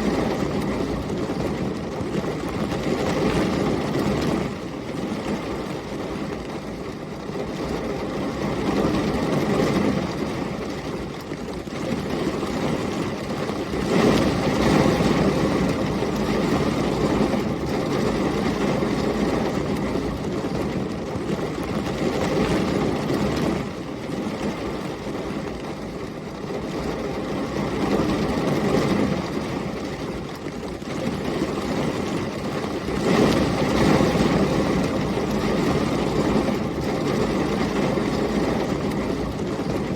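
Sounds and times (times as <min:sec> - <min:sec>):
heavy rain: 0:00.0 - 0:39.9
storm wind: 0:00.0 - 0:39.9.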